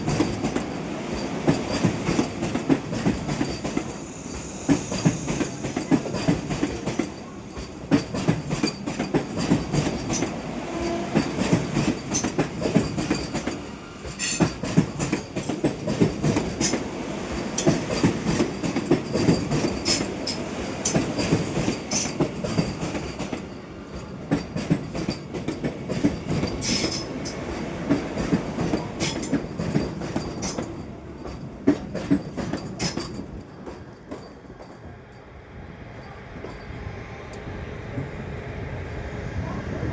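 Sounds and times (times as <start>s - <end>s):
train wheels clacking over rail joints: 0.0s - 34.9s
train rumble: 0.0s - 39.9s.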